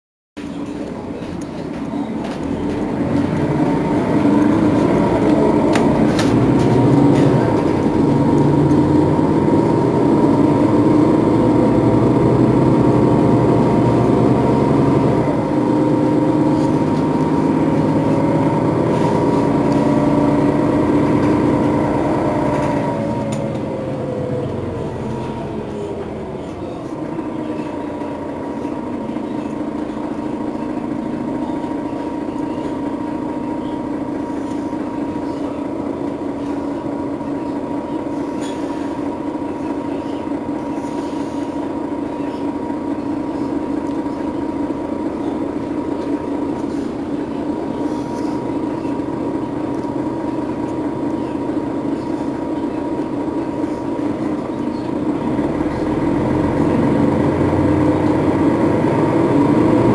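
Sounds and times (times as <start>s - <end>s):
bus diesel engine running: 0.4s - 59.9s.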